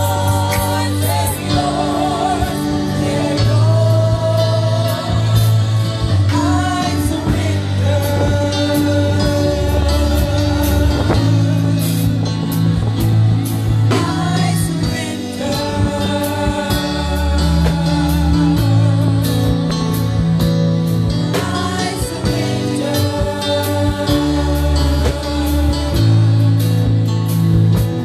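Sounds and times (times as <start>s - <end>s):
drum and cymbal hits: 0.0s - 28.0s
gospel singing: 0.0s - 28.0s
held chords and bass notes: 0.0s - 28.0s.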